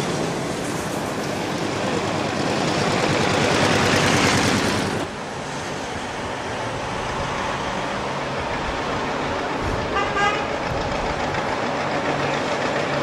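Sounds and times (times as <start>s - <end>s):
steady traffic noise: 0.0s - 13.0s.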